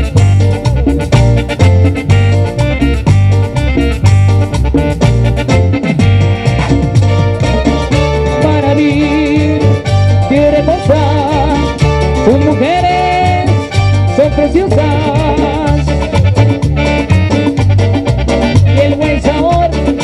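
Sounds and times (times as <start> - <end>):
congas: 0.0 - 20.0
electric guitar: 0.0 - 20.0
keyboard: 0.0 - 20.0
pulsing bass line: 0.0 - 20.0.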